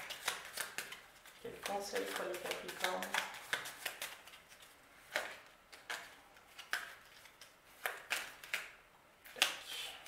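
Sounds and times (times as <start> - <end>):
cards being shuffled: 0.0 - 9.7.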